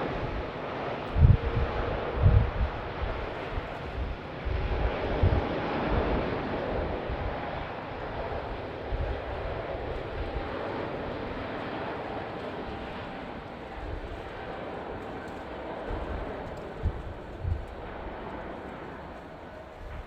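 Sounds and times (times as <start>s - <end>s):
jet engines rushing: 0.0s - 20.0s
wind buffeting microphone: 0.0s - 20.0s.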